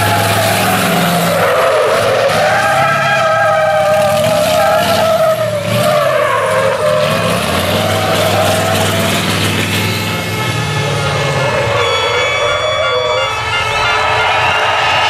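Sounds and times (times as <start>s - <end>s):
diesel engine running hard: 0.0s - 15.0s
tyres squealing: 0.0s - 15.0s.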